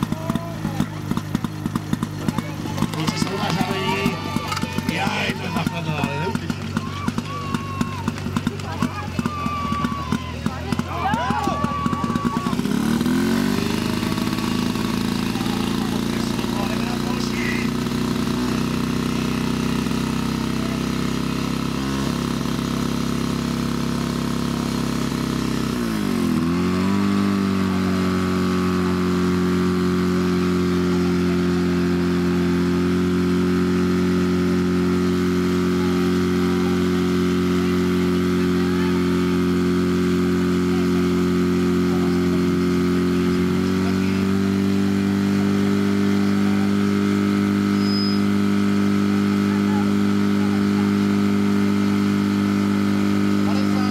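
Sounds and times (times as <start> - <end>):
pump engine running hard: 0.0 - 53.9.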